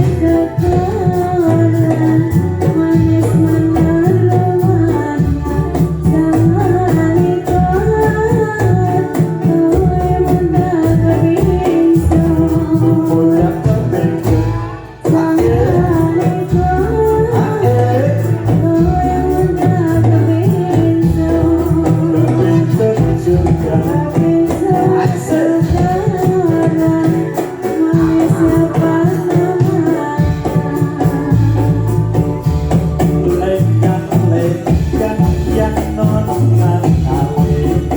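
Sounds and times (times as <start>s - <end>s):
hand drums beating: 0.0s - 37.9s
jingling percussion: 0.0s - 37.9s
person singing a melody: 0.0s - 37.9s.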